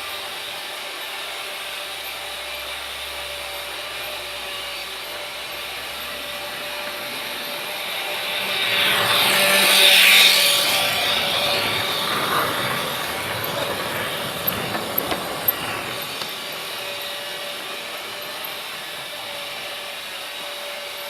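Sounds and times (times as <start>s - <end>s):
freight train wagons rolling on rails: 2.3s - 20.6s.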